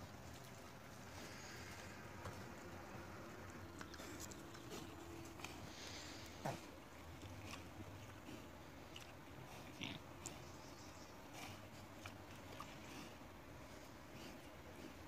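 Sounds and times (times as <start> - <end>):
boars chewing and crunching: 0.0 - 15.0.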